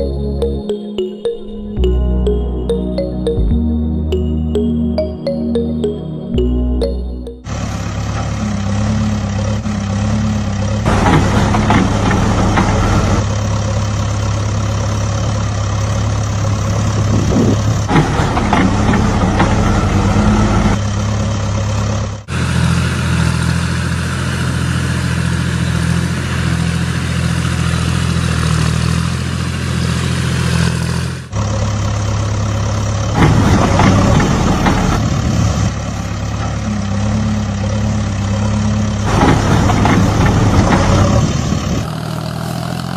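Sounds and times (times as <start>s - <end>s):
heavy truck engine idling: 5.8s - 42.9s.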